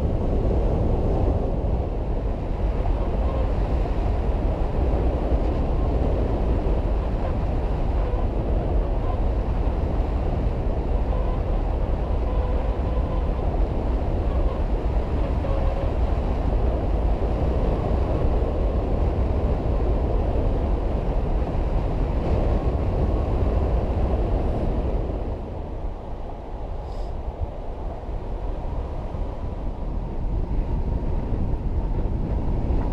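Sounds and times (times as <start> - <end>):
wind noise on microphone: 0.0 - 32.9.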